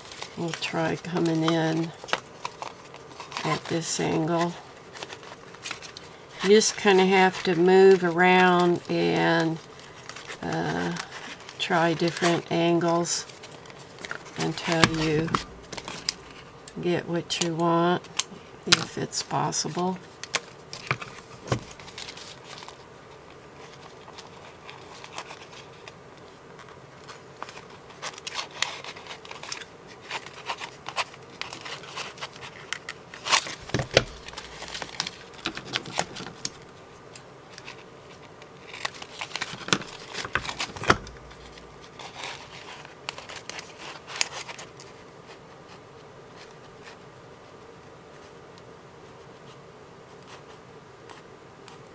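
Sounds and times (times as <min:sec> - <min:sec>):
paper rustling and crinkling: 0:00.0 - 0:36.8, 0:37.5 - 0:47.0
faint steady hum: 0:00.0 - 0:51.9.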